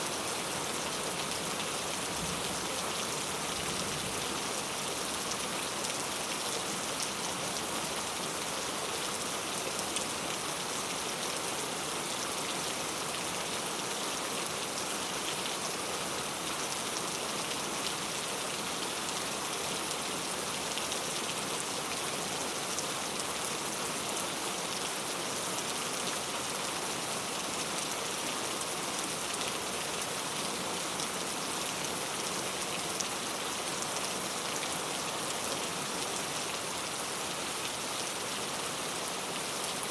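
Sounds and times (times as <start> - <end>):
heavy rain on street: 0.0 - 39.9.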